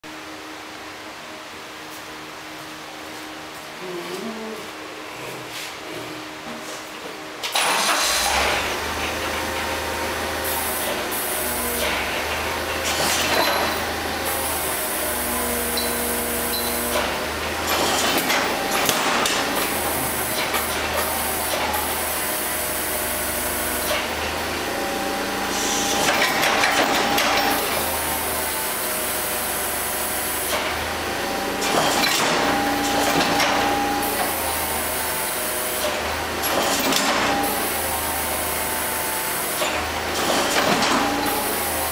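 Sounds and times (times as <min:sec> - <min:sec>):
forklift engine running: 0:07.1 - 0:41.9.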